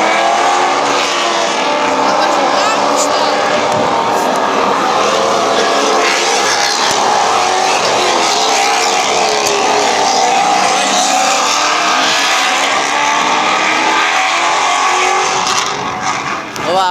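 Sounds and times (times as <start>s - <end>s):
race car engines running hard: 0.0s - 16.9s.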